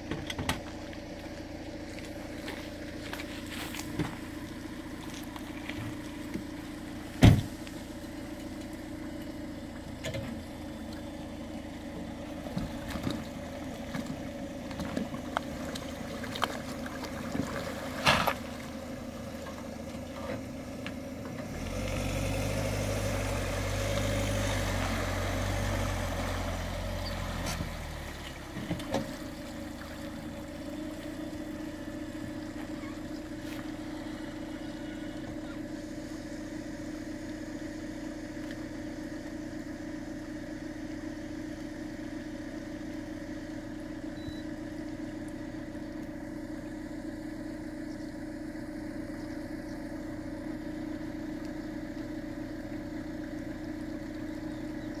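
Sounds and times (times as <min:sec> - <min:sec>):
deep engine rumble: 0:00.0 - 0:55.0
engine idling: 0:00.0 - 0:55.0.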